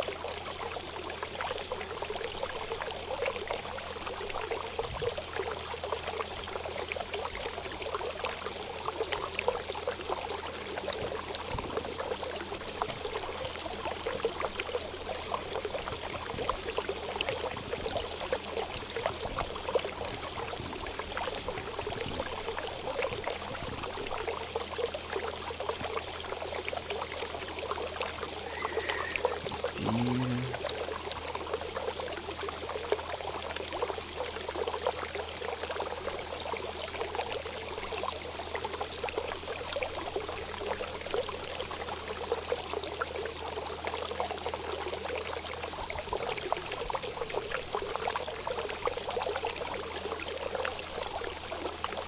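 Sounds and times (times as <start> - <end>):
running water pouring and splashing: 0.0 - 52.0.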